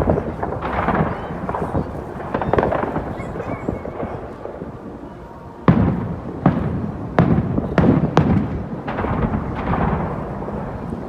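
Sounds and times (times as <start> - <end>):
fireworks bursting: 0.0 - 11.0
wind rumble on microphone: 0.0 - 11.0.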